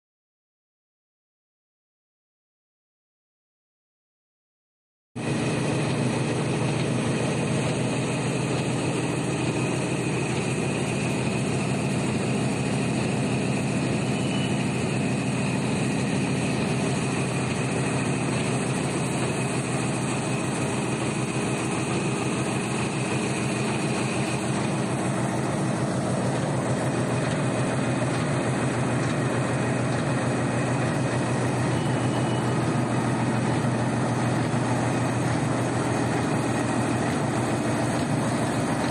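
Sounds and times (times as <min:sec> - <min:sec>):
knitting machine running: 0:05.2 - 0:38.9.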